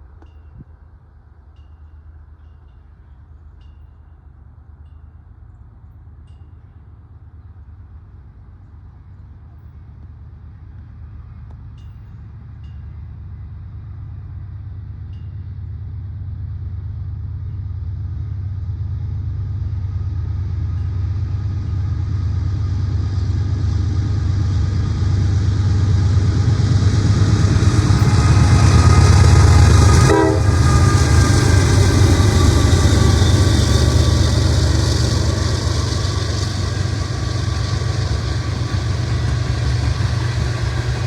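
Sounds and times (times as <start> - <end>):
diesel locomotive engine rumble: 0.0 - 41.0.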